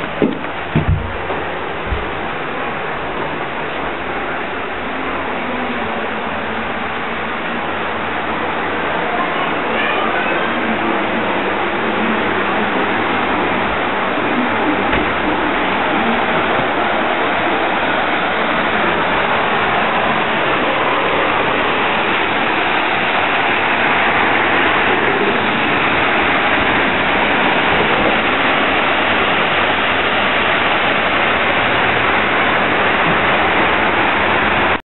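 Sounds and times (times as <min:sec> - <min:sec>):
river water rushing over weir: 0:00.0 - 0:34.8.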